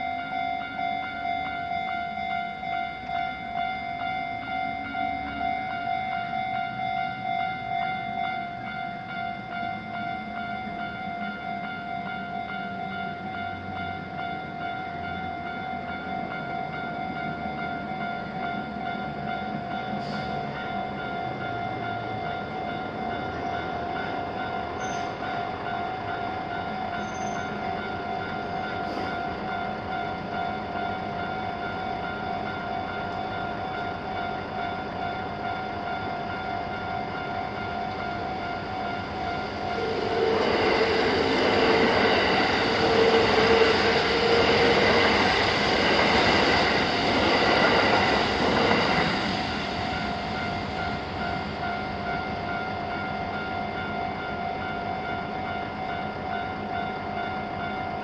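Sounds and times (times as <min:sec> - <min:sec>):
railroad crossing bells ringing: 0:00.0 - 0:58.0
train passing: 0:00.0 - 0:58.0.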